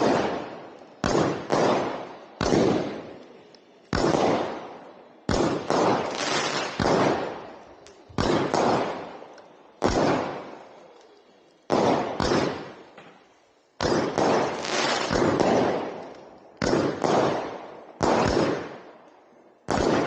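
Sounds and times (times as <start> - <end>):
firework bangs: 0.0 - 19.0, 19.6 - 20.0.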